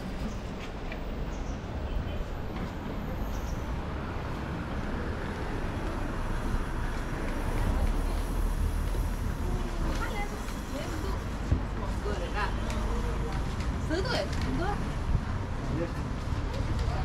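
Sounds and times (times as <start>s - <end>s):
moving vehicle rumble: 0.0s - 17.0s
road noise: 0.0s - 17.0s.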